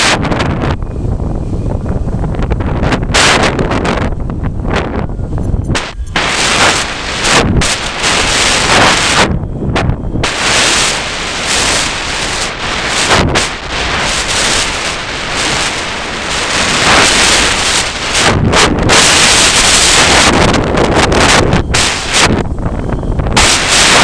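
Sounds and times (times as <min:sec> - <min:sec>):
gusty wind on microphone: 0:00.0 - 0:24.0.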